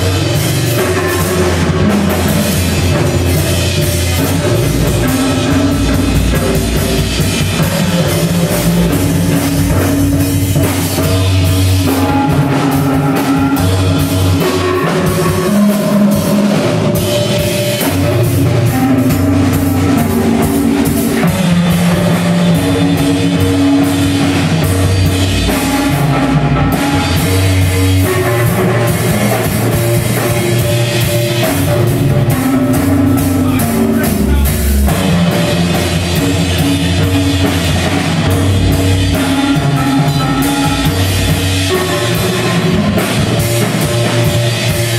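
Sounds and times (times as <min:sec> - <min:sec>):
busy drum kit: 0:00.0 - 0:44.9
live rock band playing: 0:00.0 - 0:44.9
sustained guitar notes: 0:00.0 - 0:44.9.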